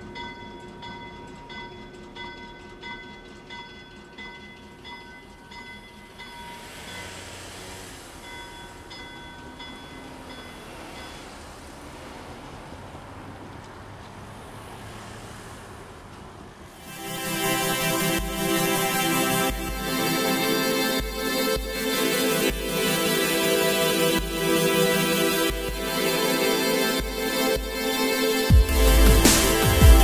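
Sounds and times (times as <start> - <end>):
bell ringing in steady strokes: 0.0 - 12.2, 16.8 - 30.0
cars passing: 5.3 - 30.0.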